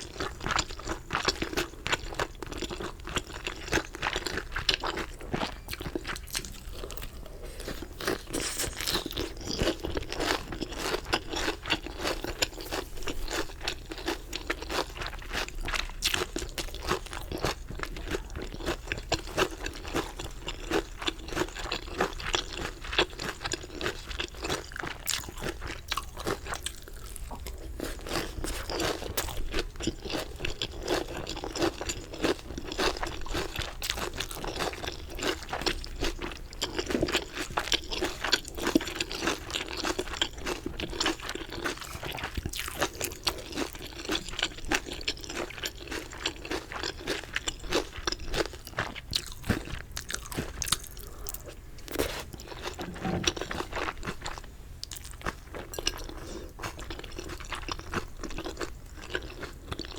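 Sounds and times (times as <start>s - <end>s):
chewing crunchy chicken: 0.0s - 59.9s.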